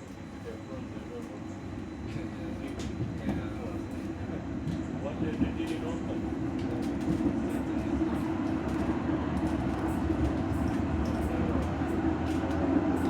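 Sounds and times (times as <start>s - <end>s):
tram rumbling on rails: 1.5s - 13.0s.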